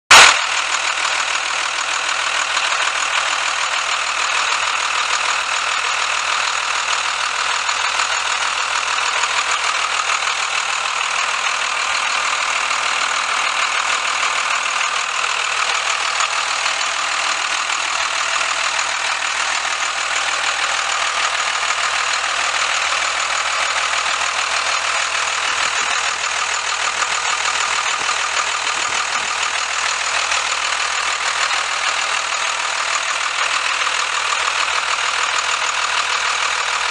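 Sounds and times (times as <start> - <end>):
diesel engine idling: 0.1 - 36.9.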